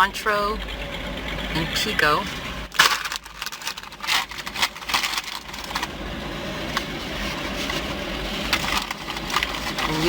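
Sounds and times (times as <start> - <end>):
car idling inside cabin: 0.0 - 10.0.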